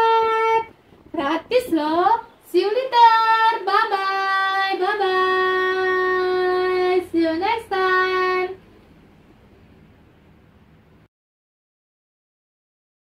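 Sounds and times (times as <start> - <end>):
faint room hiss: 0.0 - 11.1.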